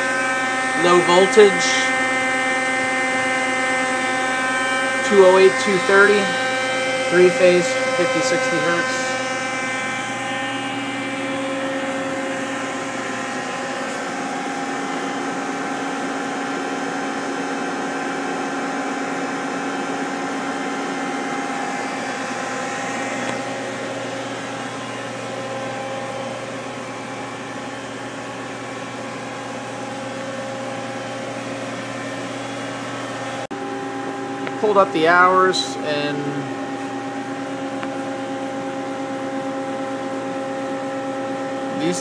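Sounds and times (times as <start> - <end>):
lathe humming: 0.0 - 42.0.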